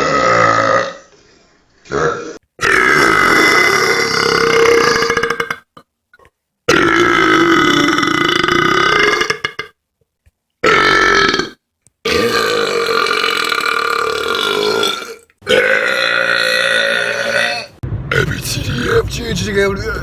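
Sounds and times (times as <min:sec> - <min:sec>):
person burping loudly: 0:00.0 - 0:01.1, 0:01.9 - 0:09.8, 0:10.6 - 0:17.7.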